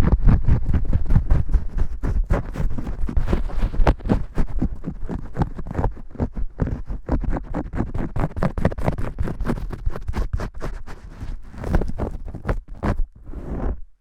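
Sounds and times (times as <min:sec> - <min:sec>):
scratching and rubbing hair: 0:00.0 - 0:13.8.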